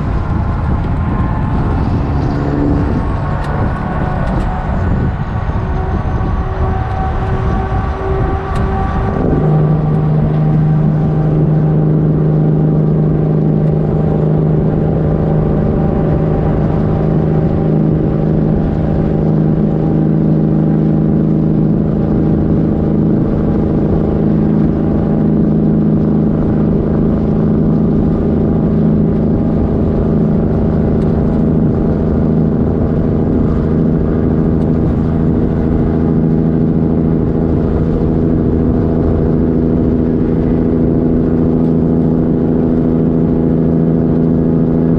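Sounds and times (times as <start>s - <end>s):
truck diesel engine drone: 0.0s - 44.9s.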